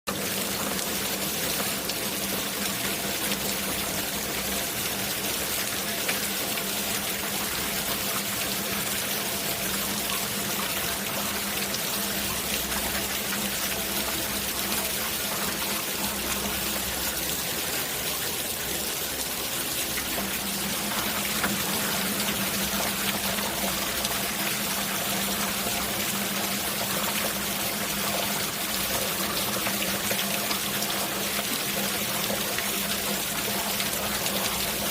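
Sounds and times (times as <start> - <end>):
rain falling: 0.1 - 34.9
water trickling: 0.1 - 34.9.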